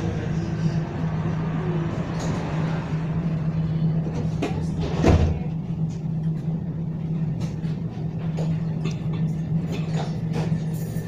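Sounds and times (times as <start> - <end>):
tram cabin hum: 0.0 - 11.0.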